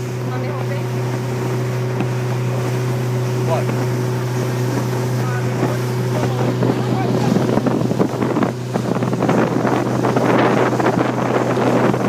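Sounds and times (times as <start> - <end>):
outboard motor droning: 0.0 - 12.0
wind buffeting microphone: 0.0 - 12.0.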